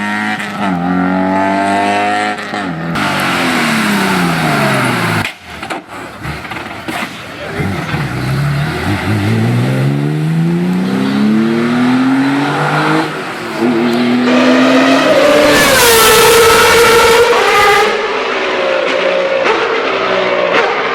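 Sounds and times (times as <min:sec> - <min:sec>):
rally car accelerating and passing: 0:00.0 - 0:20.9.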